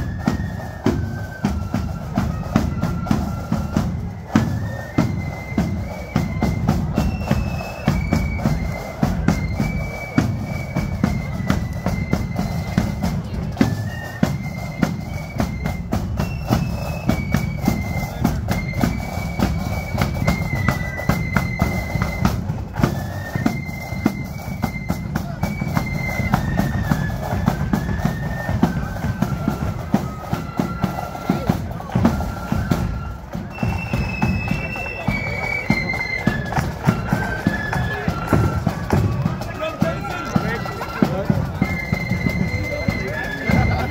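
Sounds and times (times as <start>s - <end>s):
flute melody: 0.0s - 43.9s
snare and bass drum beats: 0.0s - 43.9s.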